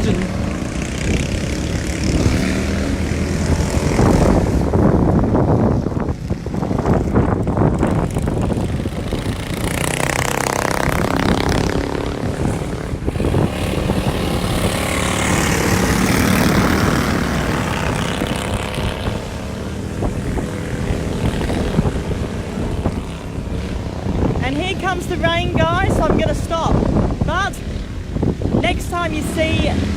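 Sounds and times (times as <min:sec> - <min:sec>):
lawn mower engines racing past: 0:00.0 - 0:29.9.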